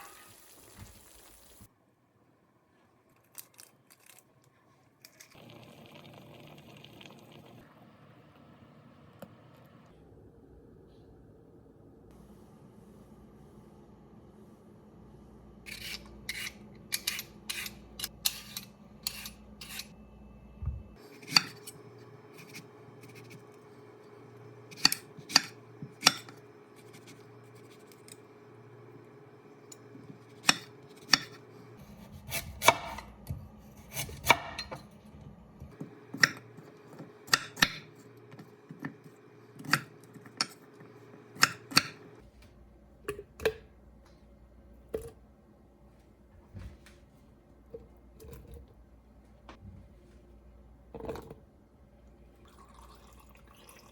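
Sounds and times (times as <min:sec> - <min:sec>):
faint steady hum: 0:04.3 - 0:53.9.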